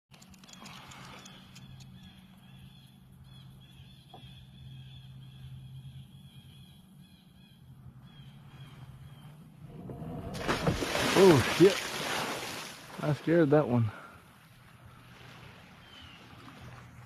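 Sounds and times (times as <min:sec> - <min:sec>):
low steady hum: 0:00.1 - 0:17.0.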